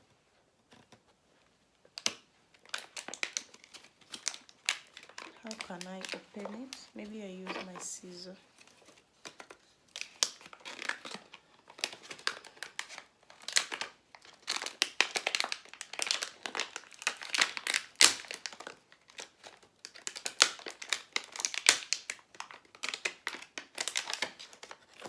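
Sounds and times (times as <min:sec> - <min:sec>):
packaging crinkling and tearing: 0:02.0 - 0:25.0.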